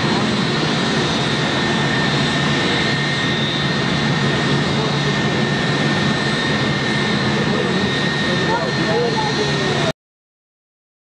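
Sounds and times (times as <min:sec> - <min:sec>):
jet airliner taxiing: 0:00.0 - 0:09.9.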